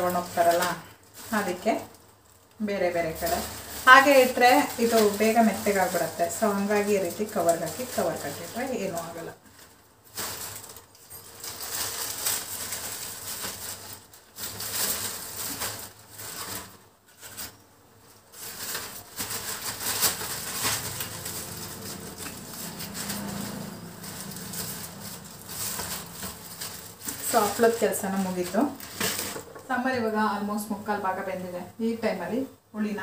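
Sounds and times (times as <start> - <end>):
plastic bags rustling: 0.0 - 32.0.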